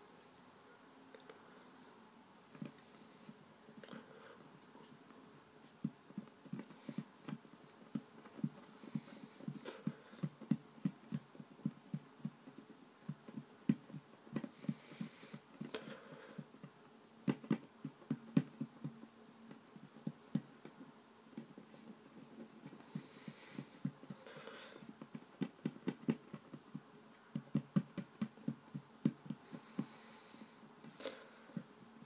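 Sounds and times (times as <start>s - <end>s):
fingers patting play dough: 5.7s - 32.0s.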